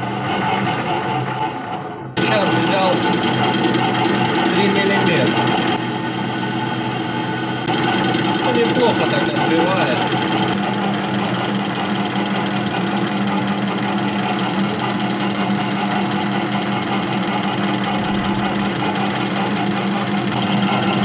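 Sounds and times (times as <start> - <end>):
metal lathe cutting plastic: 0.0 - 21.0.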